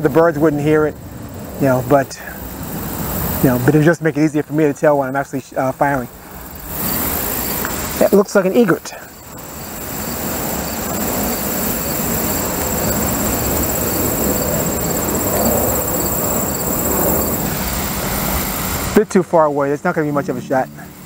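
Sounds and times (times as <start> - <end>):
distant vehicle rumble: 0.0 - 21.0
high insect trill: 0.0 - 21.0.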